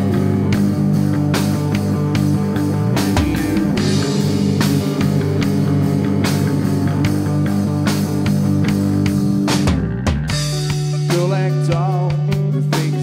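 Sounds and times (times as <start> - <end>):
drum kit: 0.0 - 13.0
electric bass: 0.0 - 13.0
electric guitar: 0.0 - 13.0.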